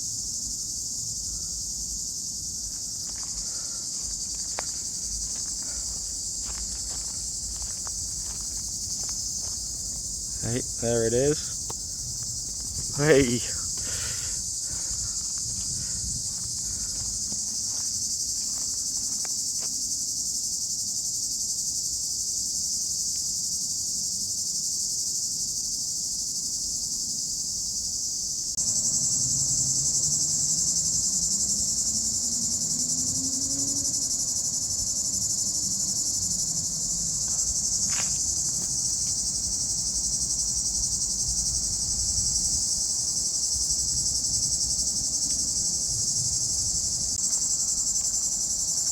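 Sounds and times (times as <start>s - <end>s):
cicadas buzzing: 0.0s - 48.9s.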